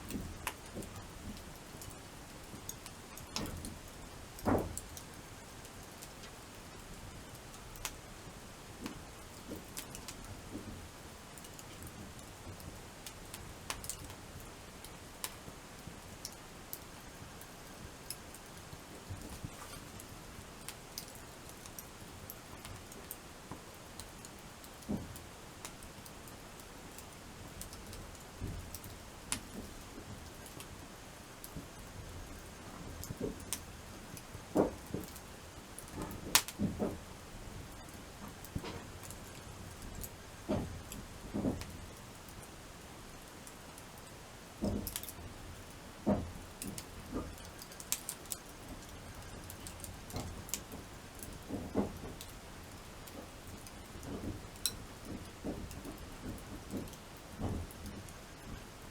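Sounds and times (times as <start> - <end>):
campfire hiss: 0.0 - 58.9
fire crackles and pops: 0.0 - 58.9.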